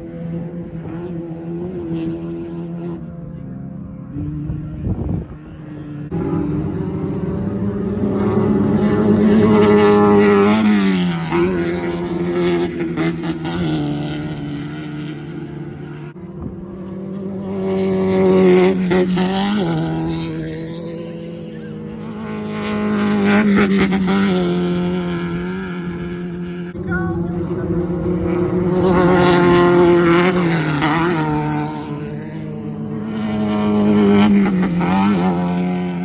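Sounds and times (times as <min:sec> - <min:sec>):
race car engines at high revs: 0:00.0 - 0:36.0.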